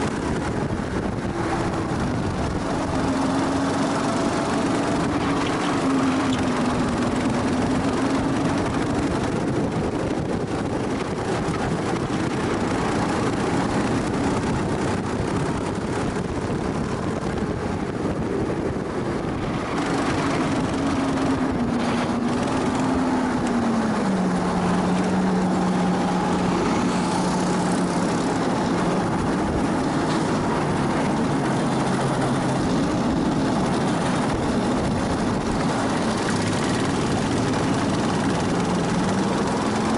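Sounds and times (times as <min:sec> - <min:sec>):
go-kart engine running: 0:00.0 - 0:39.9
wind and track noise: 0:00.0 - 0:39.9.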